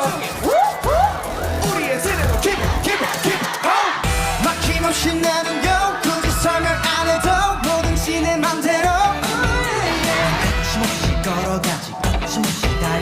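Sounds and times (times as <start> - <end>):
pop song singing over a beat: 0.0 - 13.0.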